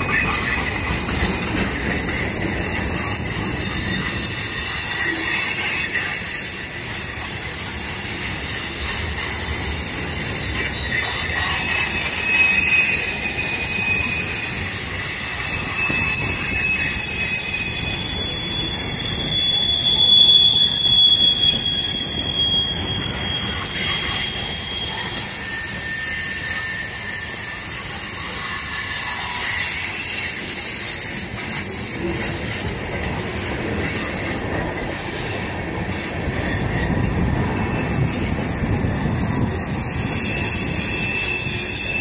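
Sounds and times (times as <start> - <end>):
high-pitched wheel squeal: 0.0 - 42.0
train wheels rumbling on rail: 0.0 - 42.0.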